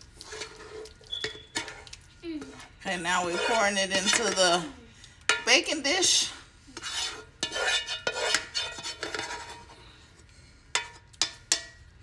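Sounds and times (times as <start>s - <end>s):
utensil scraping chili from pot: 0.0s - 4.6s, 5.3s - 11.8s.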